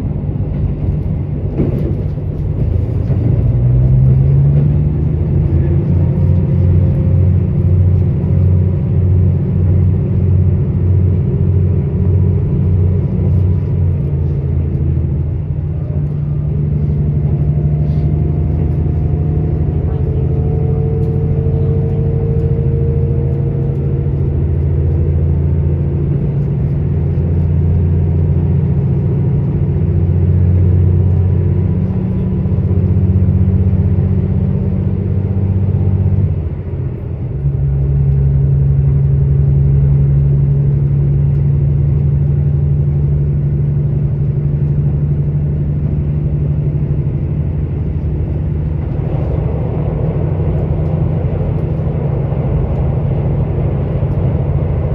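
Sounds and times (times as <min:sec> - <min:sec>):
diesel engine running: 0:00.0 - 0:54.9
train rumble: 0:00.0 - 0:54.9.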